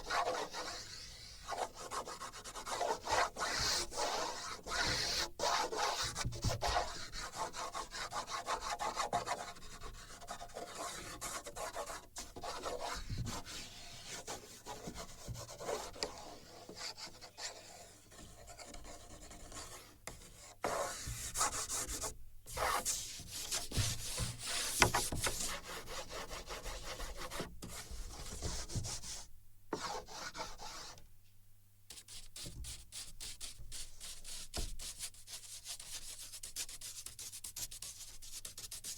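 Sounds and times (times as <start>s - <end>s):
drawing tool scratching on paper: 0.0s - 31.0s, 31.9s - 38.9s.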